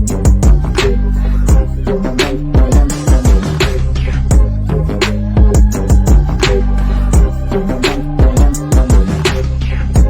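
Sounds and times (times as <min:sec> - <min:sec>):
electronic hip-hop beat: 0:00.0 - 0:10.0.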